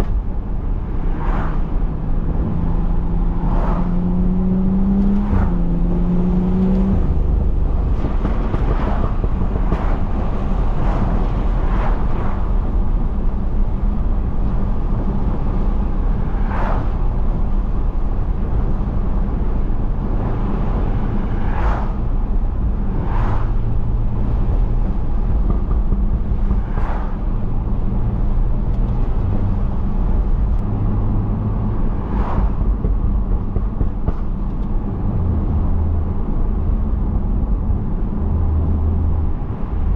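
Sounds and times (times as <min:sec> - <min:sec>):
car engine drone in cabin: 0:00.0 - 0:39.9.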